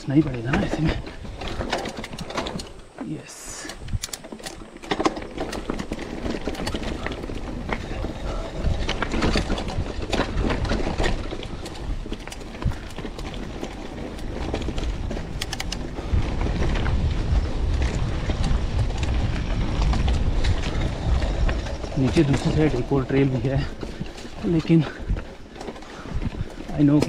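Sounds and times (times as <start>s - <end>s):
bike clicks and rattles: 0.0s - 27.0s
bike tyres rumbling on dirt: 0.0s - 27.0s.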